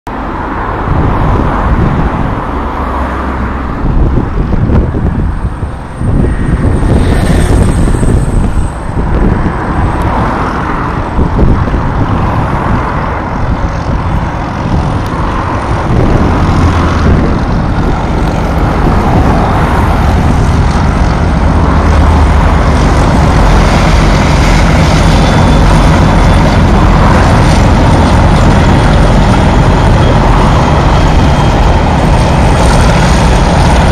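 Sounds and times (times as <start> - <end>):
diesel locomotives under power: 0.1 - 33.9.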